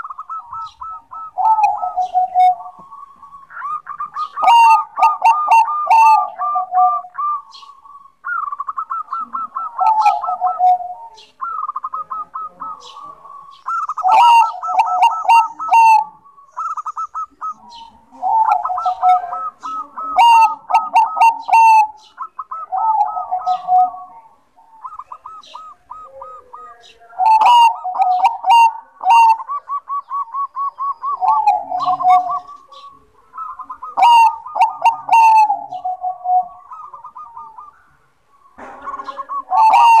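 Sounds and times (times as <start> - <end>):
dove cooing song: 0.0 - 40.0.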